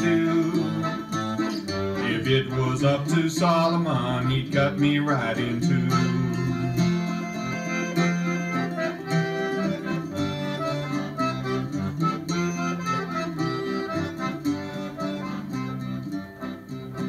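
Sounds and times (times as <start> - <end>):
accordion playing: 0.0 - 17.0
bouzouki strumming: 0.0 - 17.0.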